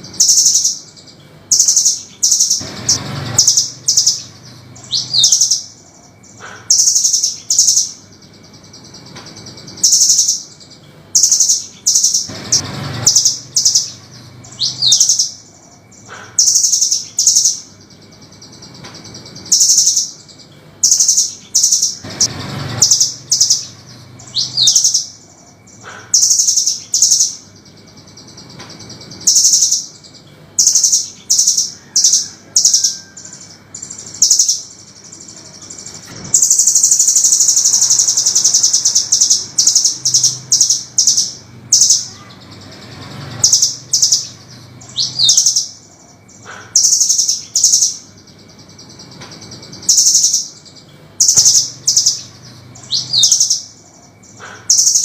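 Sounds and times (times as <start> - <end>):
bird chirping and trilling: 0.0 - 55.0.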